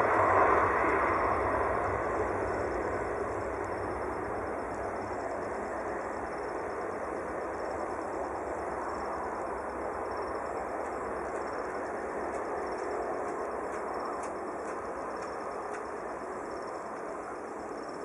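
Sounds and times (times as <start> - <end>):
distant jet engine rumble: 0.0 - 18.0.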